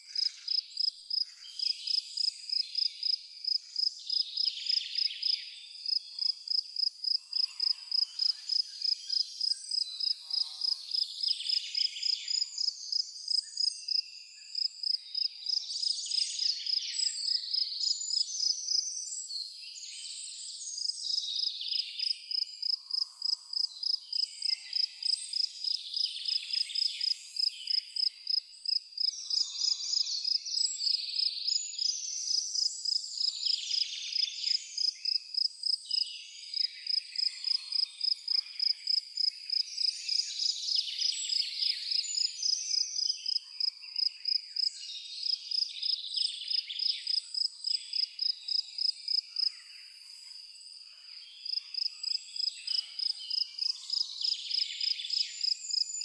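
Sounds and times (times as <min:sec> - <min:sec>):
cricket chirping: 0:00.0 - 0:18.8, 0:20.2 - 0:56.0
songbirds singing: 0:00.0 - 0:56.0.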